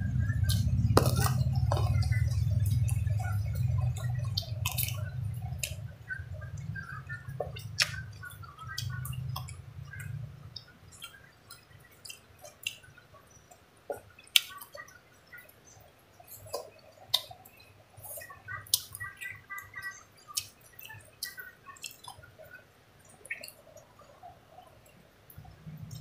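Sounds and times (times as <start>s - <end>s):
chewing clicks: 0.4s - 15.6s, 16.3s - 26.0s.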